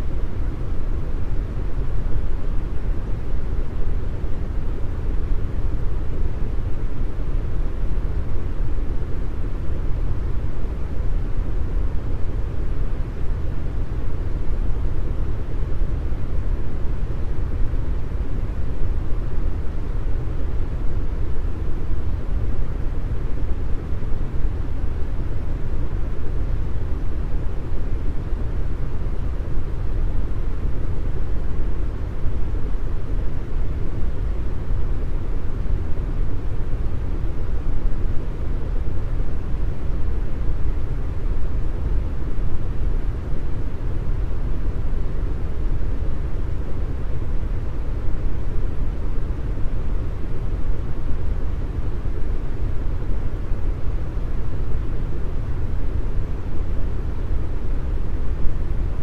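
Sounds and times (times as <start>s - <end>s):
deep brown noise hiss: 0.0s - 59.0s.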